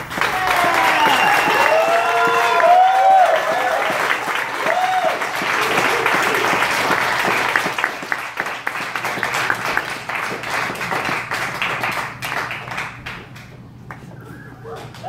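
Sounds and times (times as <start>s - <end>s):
audience applause: 0.0s - 14.1s
scattered single claps: 0.0s - 14.1s.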